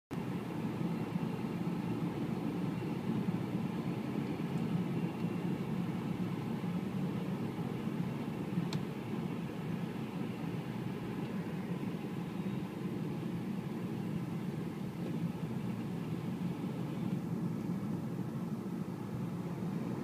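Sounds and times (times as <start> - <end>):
car road and engine noise: 0.1 - 20.0.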